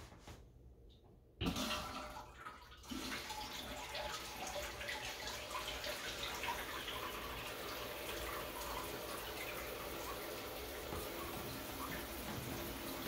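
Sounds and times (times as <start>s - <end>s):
water running into toilet: 1.4s - 13.0s.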